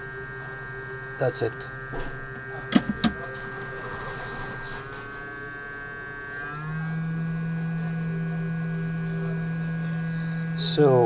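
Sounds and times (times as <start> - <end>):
hot air blower humming: 0.0 - 11.0.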